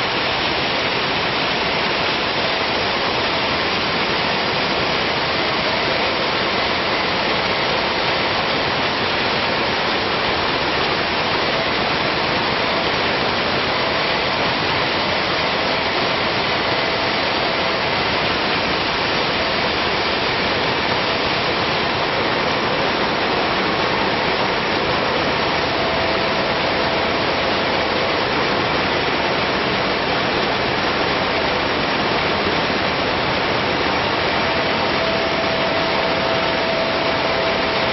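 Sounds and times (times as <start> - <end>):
production line machinery running: 0.0 - 37.9.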